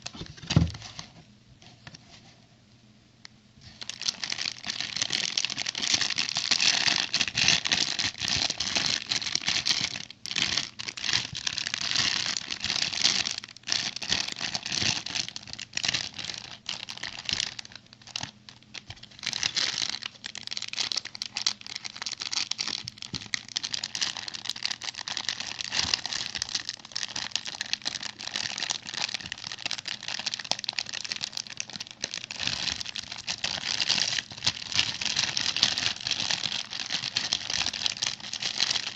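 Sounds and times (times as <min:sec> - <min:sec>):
plastic packaging crinkling and tearing: 0:03.6 - 0:38.9.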